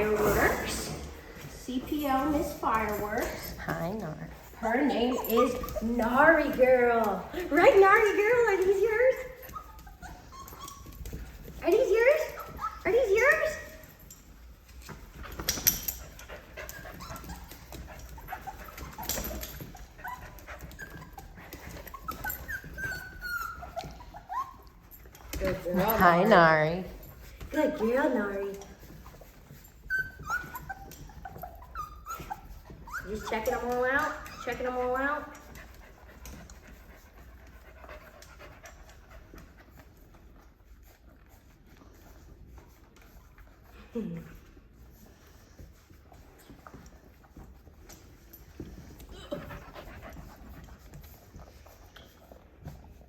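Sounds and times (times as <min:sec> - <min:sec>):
dog panting softly: 0:00.0 - 0:53.0
puppies whimpering and squeaking: 0:00.0 - 0:53.0.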